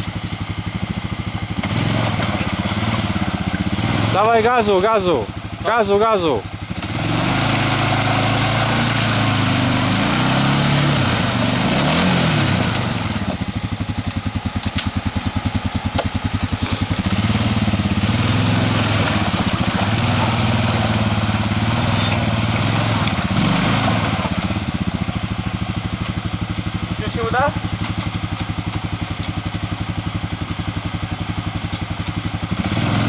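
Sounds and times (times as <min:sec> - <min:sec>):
atv engine revving: 0:00.0 - 0:33.0
engine chugging idle: 0:00.0 - 0:33.0.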